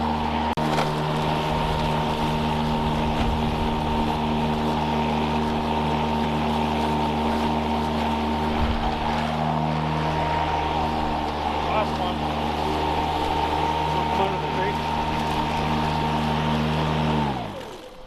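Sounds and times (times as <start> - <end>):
lawn mower cutting grass: 0.0 - 18.0.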